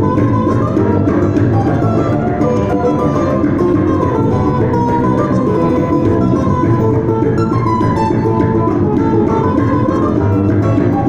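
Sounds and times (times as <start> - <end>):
contrabass balalaika bass line: 0.0 - 11.0
plucked folk string instrument: 0.0 - 11.0.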